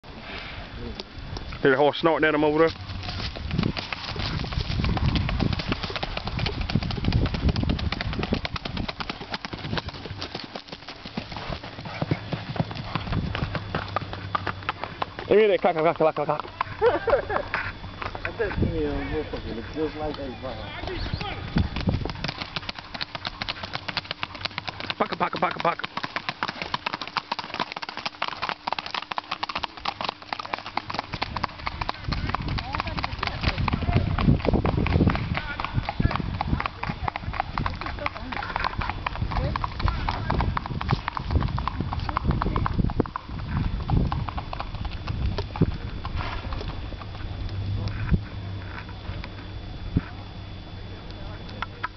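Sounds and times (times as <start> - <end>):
clacking horse hoofbeats: 2.0 - 47.2.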